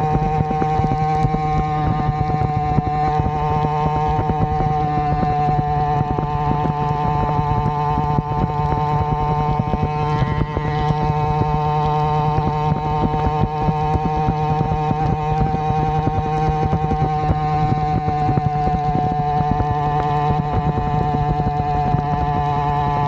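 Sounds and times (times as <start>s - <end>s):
two-stroke engine at steady revs: 0.0s - 23.0s.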